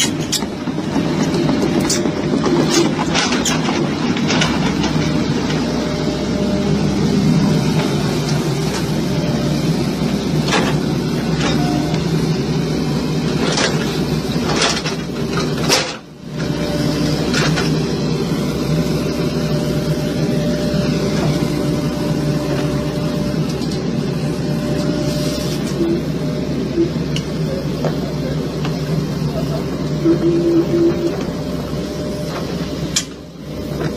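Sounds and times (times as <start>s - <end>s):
heavy machinery running: 0.0s - 33.9s.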